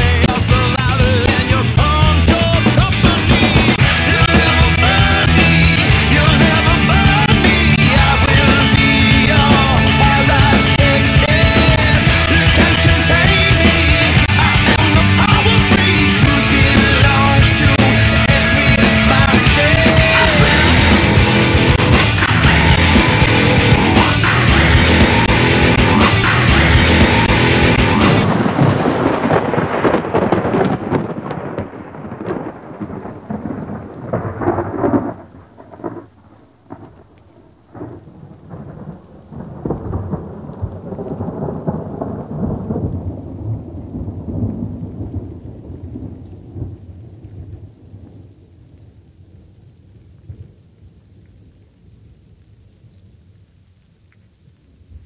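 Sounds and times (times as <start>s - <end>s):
thunder rumbling: 0.0s - 50.7s
steady rain: 0.0s - 55.0s
sharp thunder cracks: 3.0s - 48.3s.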